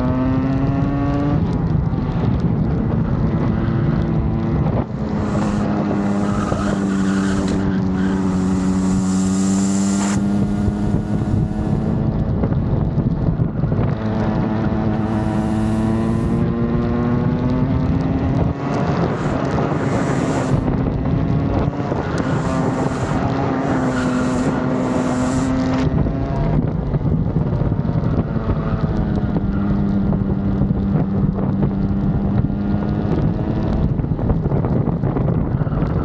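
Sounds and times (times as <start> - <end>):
kart engine accelerating: 0.0 - 12.4, 13.8 - 34.2
wind buffeting microphone: 0.0 - 36.0.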